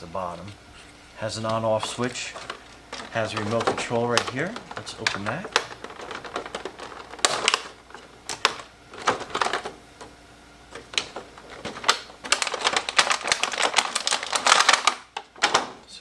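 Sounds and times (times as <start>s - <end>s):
packaging clicks and rustles: 0.0s - 16.0s.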